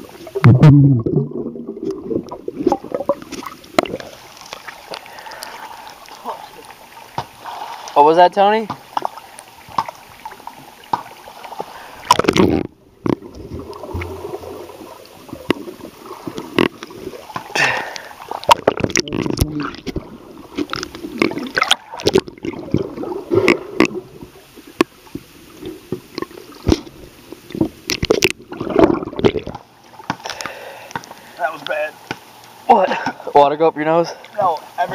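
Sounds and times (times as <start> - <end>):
pool water sloshing and gurgling: 0.0 - 34.9.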